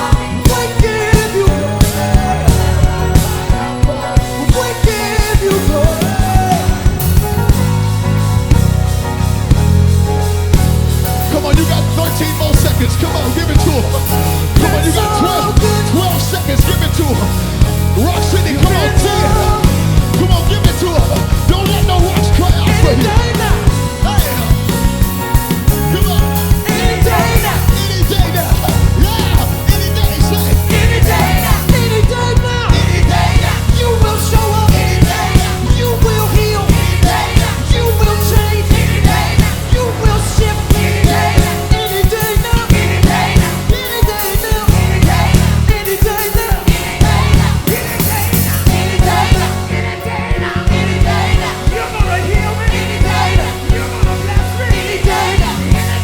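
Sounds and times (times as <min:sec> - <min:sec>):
voices singing and calling out: 0:00.0 - 0:07.2, 0:11.4 - 0:56.0
drum beat: 0:00.0 - 0:56.0
gospel band playing: 0:00.0 - 0:56.0.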